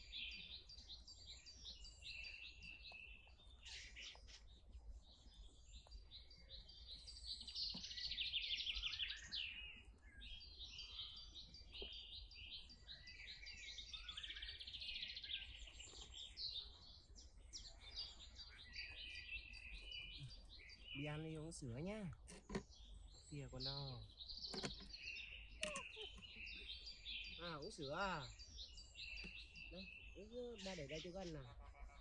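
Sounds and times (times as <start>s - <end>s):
birds chirping and trilling: 0.0s - 32.0s.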